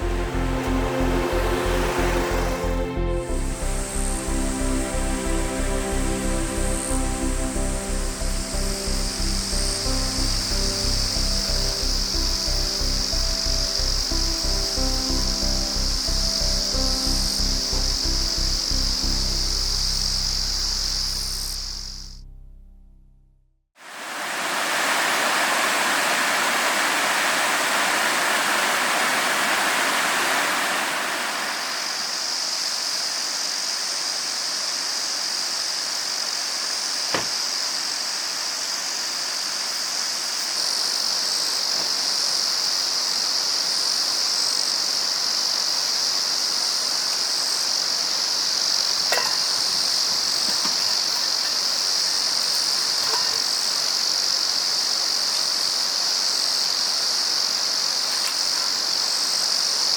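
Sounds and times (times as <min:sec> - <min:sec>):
stream rushing: 0:00.0 - 0:14.8, 0:23.8 - 0:55.9, 0:56.8 - 0:59.9
high insect drone: 0:00.0 - 0:22.2, 0:23.8 - 0:59.9.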